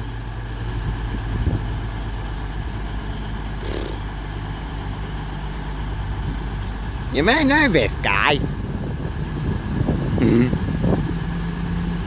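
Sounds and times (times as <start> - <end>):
train diesel engines droning: 0.0 - 12.0.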